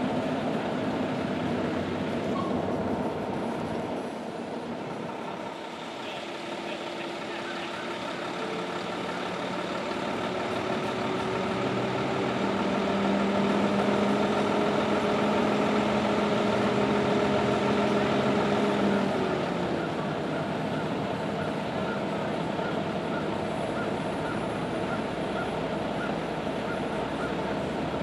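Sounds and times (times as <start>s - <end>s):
heavy truck engine running: 0.0s - 28.0s.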